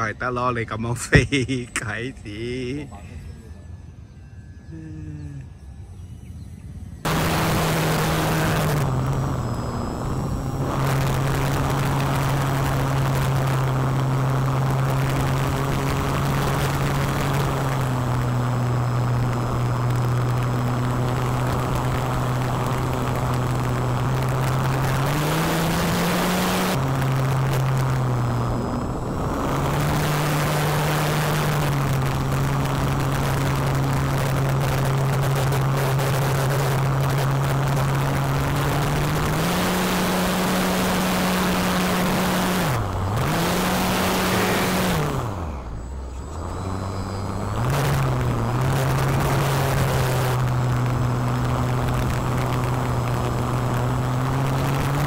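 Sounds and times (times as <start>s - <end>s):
model plane motor drone: 0.0s - 55.0s
rushing wind: 6.5s - 55.0s.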